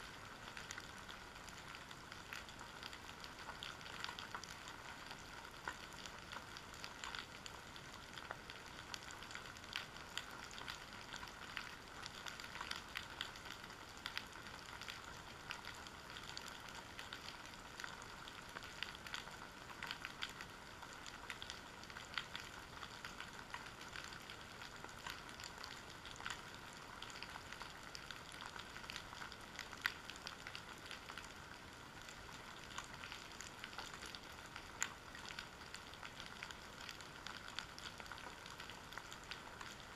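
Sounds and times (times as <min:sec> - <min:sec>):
underwater crackling clicks and pops: 0:00.1 - 0:39.9.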